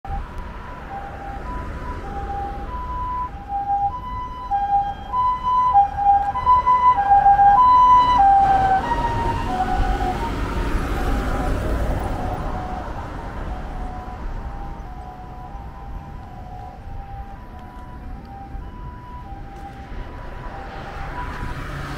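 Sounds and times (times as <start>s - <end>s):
road traffic rumble: 0.1s - 21.9s
two-tone ambulance siren: 0.1s - 21.9s.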